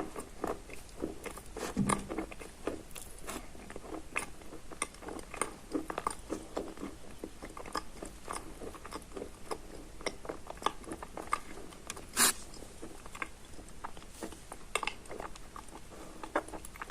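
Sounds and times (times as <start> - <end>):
chewing wet chalk crunches: 0.0 - 16.9.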